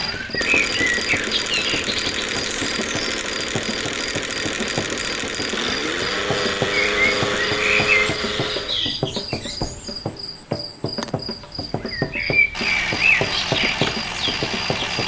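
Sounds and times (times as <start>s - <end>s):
cricket chirping: 0.0s - 15.0s
small engine knocking: 0.0s - 15.0s.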